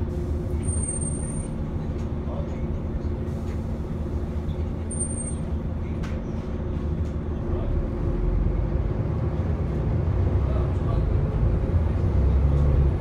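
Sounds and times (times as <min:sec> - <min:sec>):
bus engine hum: 0:00.0 - 0:13.0.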